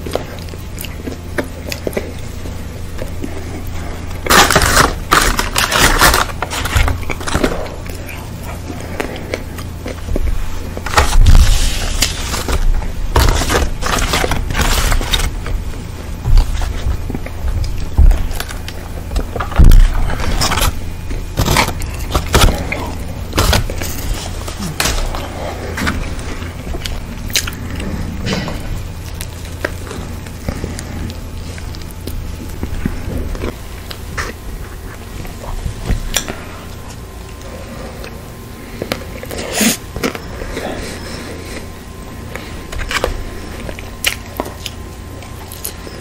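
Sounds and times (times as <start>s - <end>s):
crunching bites and chewing: 0.0s - 46.0s
steady low hum: 0.0s - 46.0s.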